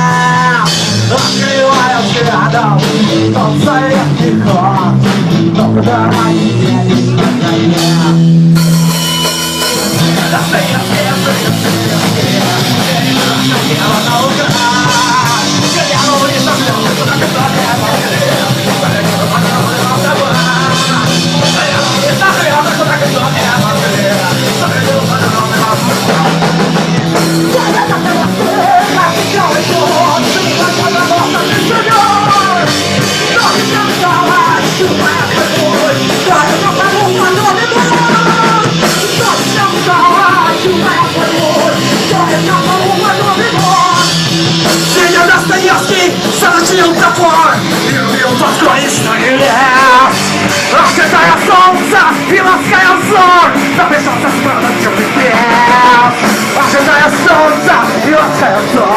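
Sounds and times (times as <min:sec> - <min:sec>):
drums beating: 0:00.0 - 0:58.9
guitars: 0:00.0 - 0:58.9
punk rock band playing: 0:00.0 - 0:58.9.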